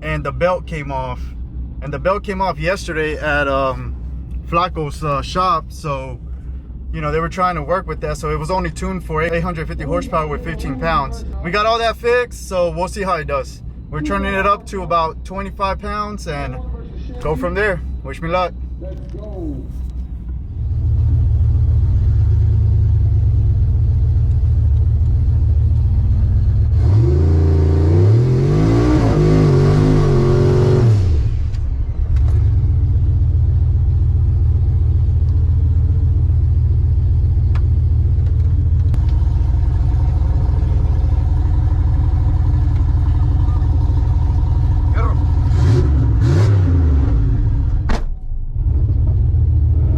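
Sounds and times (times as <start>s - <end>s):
truck engine idling and revving: 0.0s - 49.9s.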